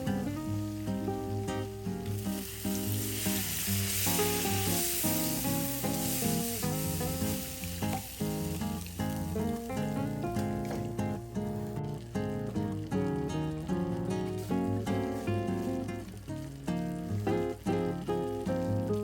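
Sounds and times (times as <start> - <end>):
acoustic guitar background music: 0.0 - 19.0
food sizzling in a frying pan: 0.0 - 19.0.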